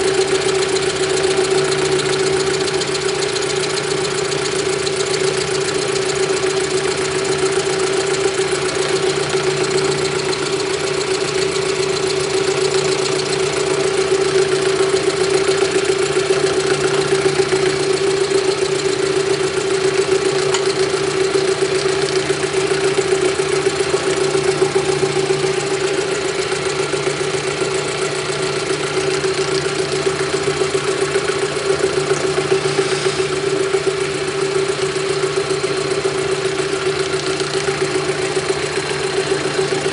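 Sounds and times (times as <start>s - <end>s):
fast even rattle: 0.0s - 39.9s
milling machine motor humming: 0.0s - 39.9s.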